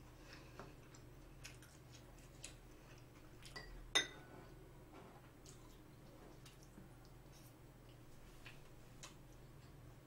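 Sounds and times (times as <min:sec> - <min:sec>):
quiet eating sounds: 0:00.0 - 0:10.0.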